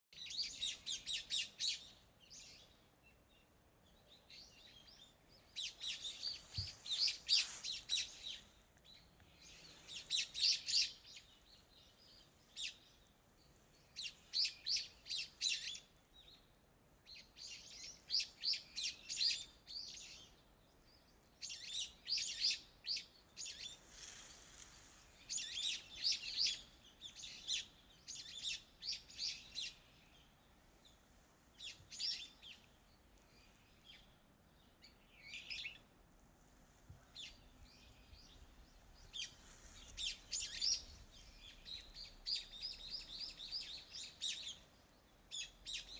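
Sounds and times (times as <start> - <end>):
songbird chirping: 0.0 - 45.9
faint steady hiss: 0.2 - 45.9.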